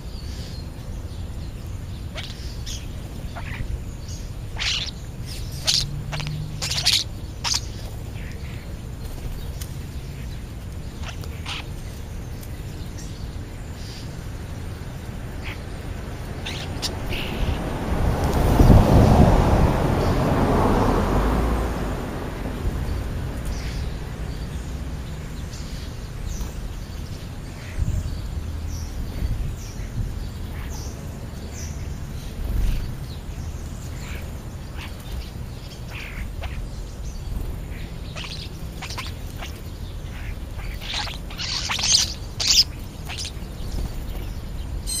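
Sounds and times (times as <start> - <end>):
starlings and sparrows chirping: 0.0 - 45.0.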